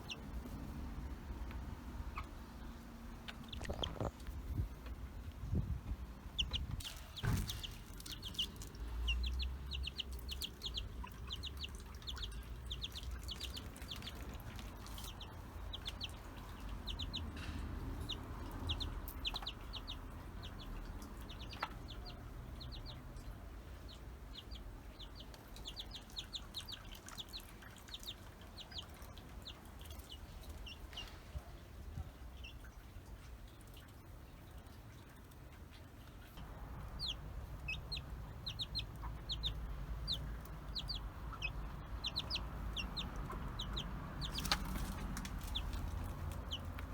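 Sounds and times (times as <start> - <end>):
chicks peeping: 0.0 - 4.6, 5.4 - 32.9, 33.6 - 46.9.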